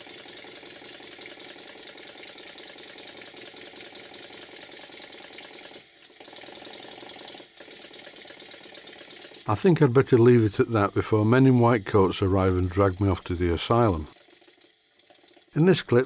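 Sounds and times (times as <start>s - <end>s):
model steam engine running: 0.0s - 16.0s.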